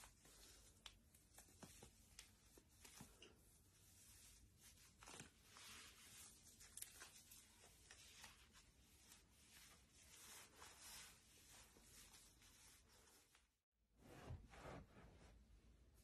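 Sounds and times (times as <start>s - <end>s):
nylon stockings rustling: 0.0s - 13.6s.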